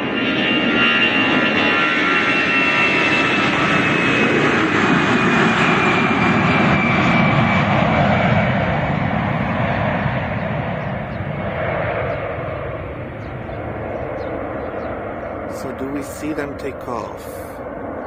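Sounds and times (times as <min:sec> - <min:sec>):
jet engines roaring and whining: 0:00.0 - 0:18.0.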